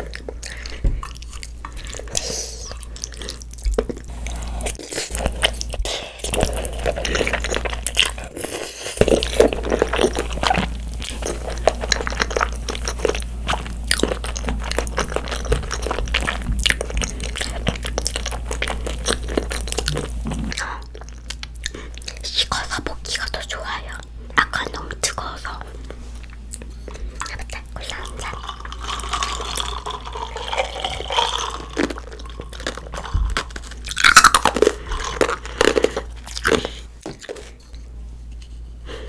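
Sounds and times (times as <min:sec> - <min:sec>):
close chewing and slurping: 0:00.0 - 0:22.8, 0:25.2 - 0:37.9.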